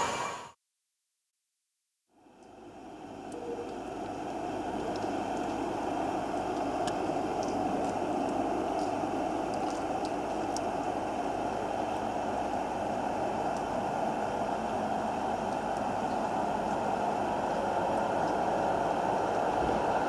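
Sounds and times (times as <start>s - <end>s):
distant train rumble: 2.2s - 20.0s.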